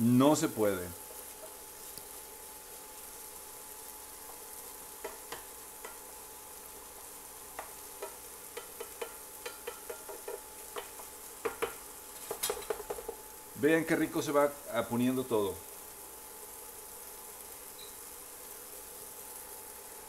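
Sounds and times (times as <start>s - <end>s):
vegetables sizzling in a frying pan: 0.0s - 20.0s.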